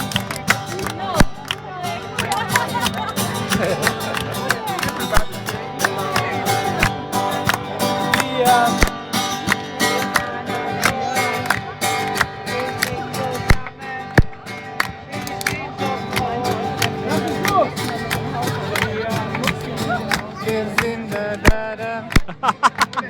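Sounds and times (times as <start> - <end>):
acoustic guitar strummed and picked: 0.0 - 23.0.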